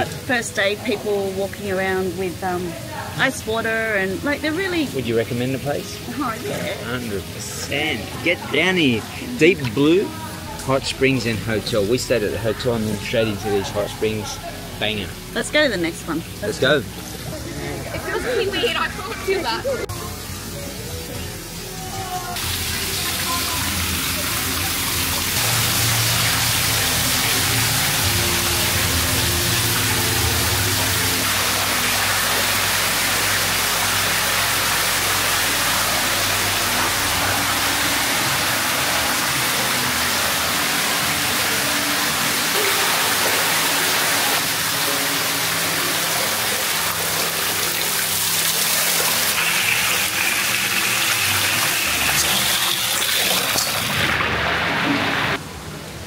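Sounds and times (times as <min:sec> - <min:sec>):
background music low notes: 0:00.0 - 0:56.0
pouring water rushing: 0:00.0 - 0:56.0.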